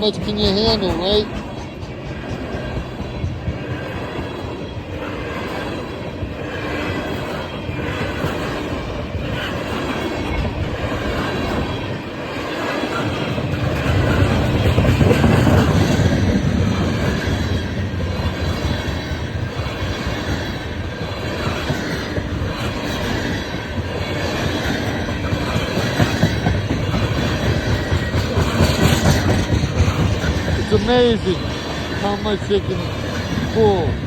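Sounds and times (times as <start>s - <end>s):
freight train rumbling on rails: 0.0s - 34.0s.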